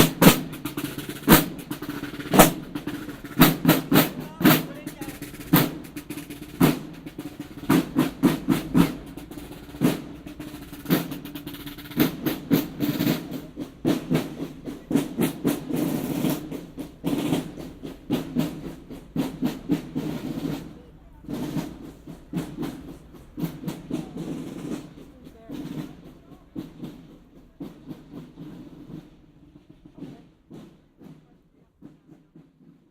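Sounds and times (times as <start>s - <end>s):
snare drums playing march beat: 0.0s - 32.9s.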